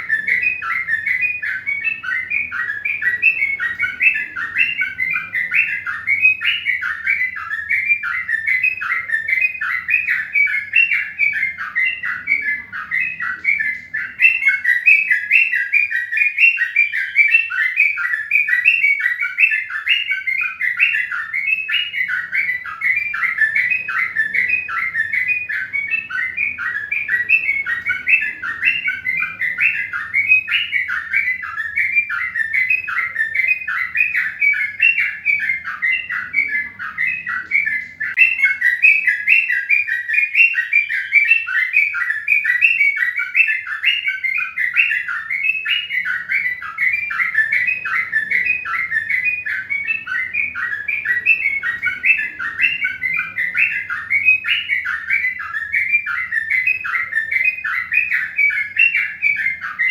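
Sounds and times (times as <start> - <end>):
birds chirping rapidly: 0.0 - 59.9.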